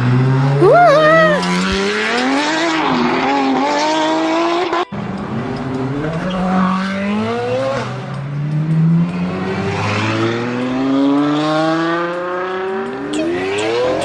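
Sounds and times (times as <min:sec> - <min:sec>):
car engines revving hard: 0:00.0 - 0:00.6, 0:01.4 - 0:14.0.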